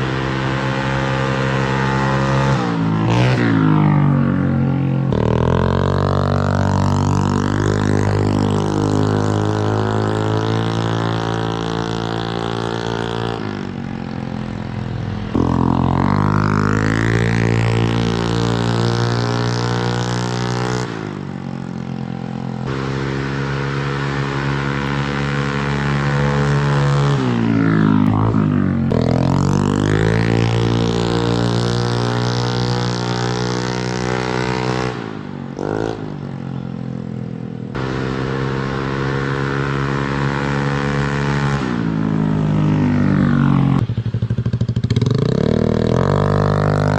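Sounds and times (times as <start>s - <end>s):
motorcycle idling and revving: 0.0s - 46.9s.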